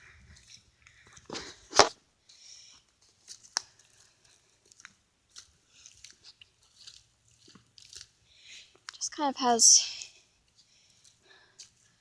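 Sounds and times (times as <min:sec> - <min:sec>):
footsteps on a dry trail: 0:00.0 - 0:12.0.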